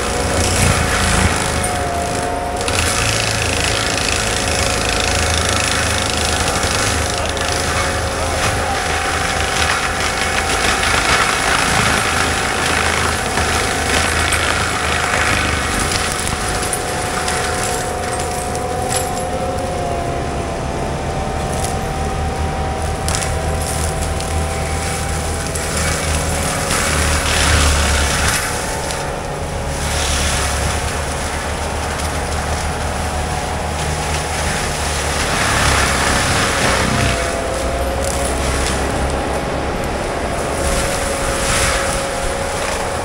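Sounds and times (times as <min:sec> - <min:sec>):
brush shredding: 0:00.0 - 0:20.2, 0:21.2 - 0:43.0
diesel engine running: 0:00.0 - 0:43.0
mulcher drum whine: 0:00.0 - 0:43.0.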